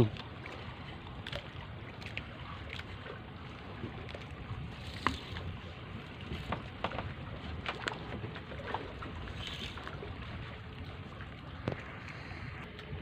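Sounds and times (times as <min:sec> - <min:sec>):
low rumble of wind and water: 0:00.0 - 0:13.0.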